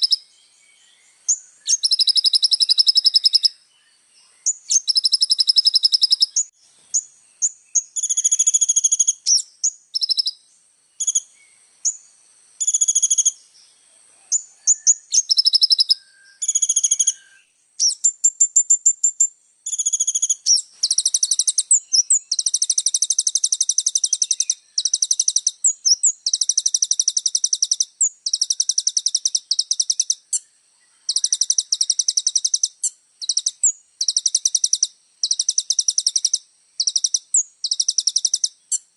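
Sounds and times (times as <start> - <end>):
sunbird singing high trills: 0.0 - 38.9.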